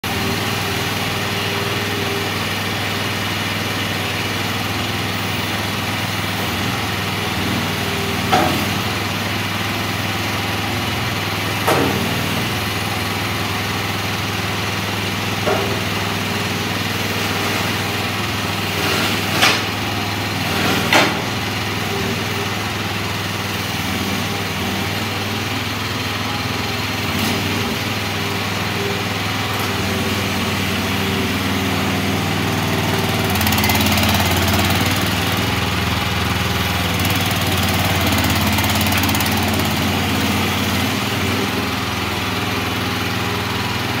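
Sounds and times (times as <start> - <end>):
skid steer loader engine running: 0.0 - 44.0.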